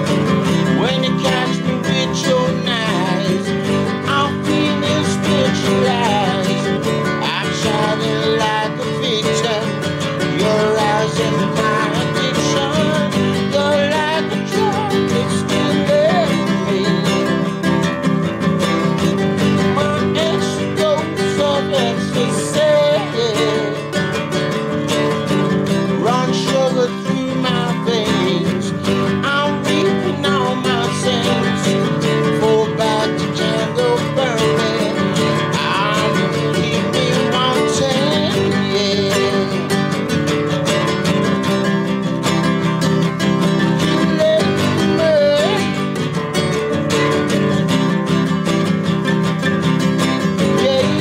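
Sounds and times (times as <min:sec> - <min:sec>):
acoustic guitar strumming: 0:00.0 - 0:51.0
man singing: 0:00.0 - 0:51.0.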